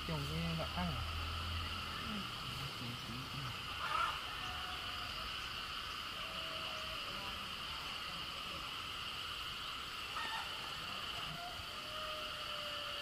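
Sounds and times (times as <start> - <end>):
insect chirp: 0.0 - 13.0
insects droning: 0.0 - 13.0.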